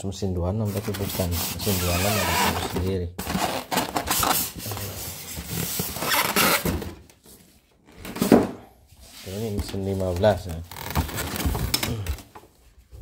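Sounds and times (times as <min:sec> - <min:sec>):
packaging rustling and scraping: 0:00.6 - 0:08.4, 0:09.0 - 0:13.0.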